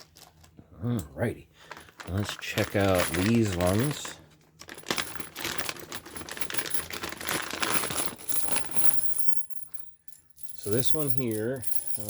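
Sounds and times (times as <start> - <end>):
rustling: 1.6 - 12.0
metal handcuffs and chain clinking: 1.9 - 12.0.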